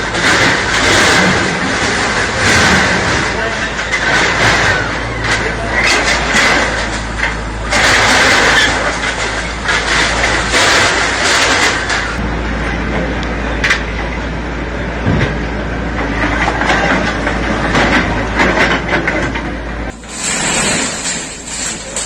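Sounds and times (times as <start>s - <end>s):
debris clattering and knocking: 0.0s - 12.2s, 15.0s - 22.0s
bulldozer engine under load: 0.0s - 22.0s.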